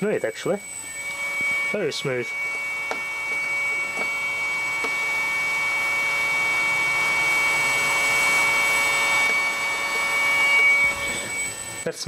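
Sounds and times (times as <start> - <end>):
electric motor whine: 0.0 - 12.0.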